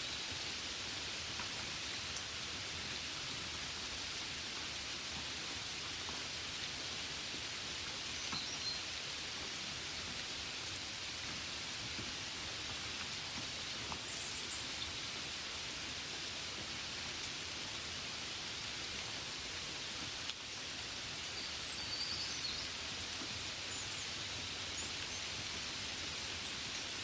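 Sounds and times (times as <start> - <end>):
gentle rain: 0.0 - 27.0.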